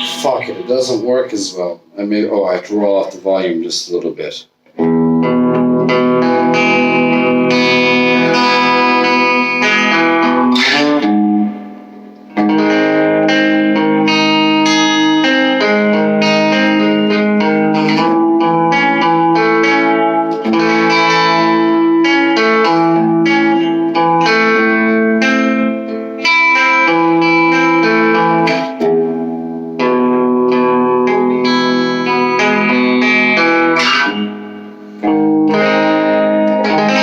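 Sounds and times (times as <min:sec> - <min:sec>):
electric guitar chords and notes: 0:00.0 - 0:02.4, 0:04.6 - 0:37.0.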